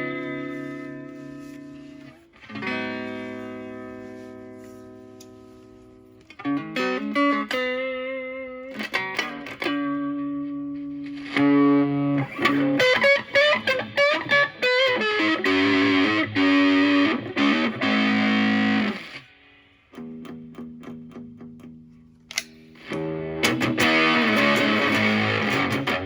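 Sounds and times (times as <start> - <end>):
distorted electric guitar: 0.0 - 21.8, 22.8 - 26.0.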